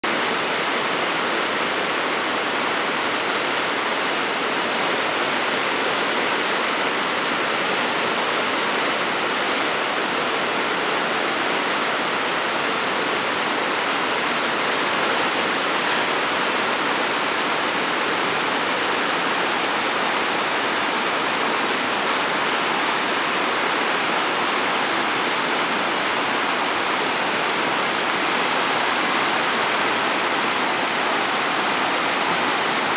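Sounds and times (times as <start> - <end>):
rush of white water: 0.0 - 32.9.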